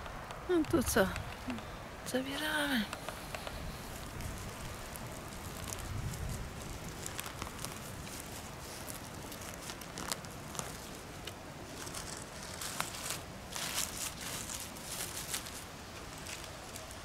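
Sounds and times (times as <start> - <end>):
pine needles crackling and rustling: 0.4 - 17.0
twigs snapping: 2.9 - 17.0.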